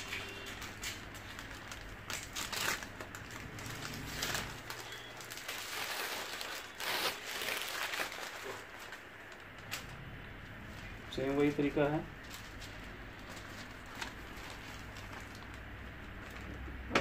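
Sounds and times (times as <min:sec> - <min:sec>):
paper rustling and crinkling: 0:00.0 - 0:09.9, 0:10.6 - 0:16.6.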